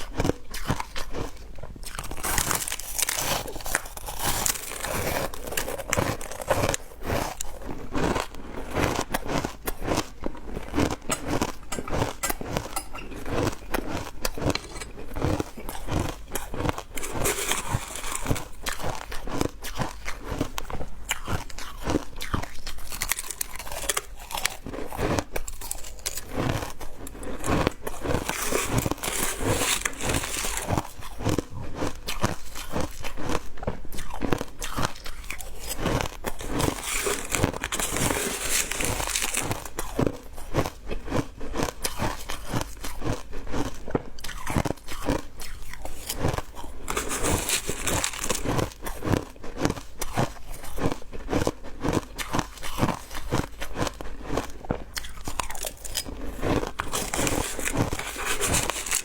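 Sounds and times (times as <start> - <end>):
chewing ice crunches: 0.0 - 59.0.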